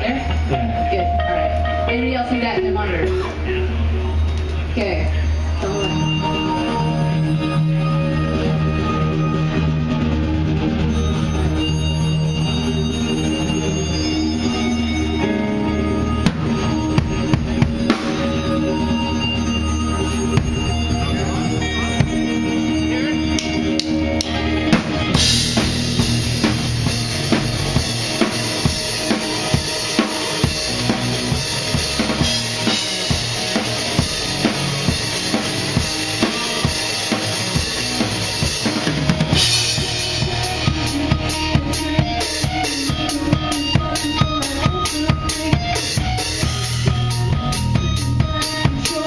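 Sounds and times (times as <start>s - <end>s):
rock band playing: 0.0s - 49.0s.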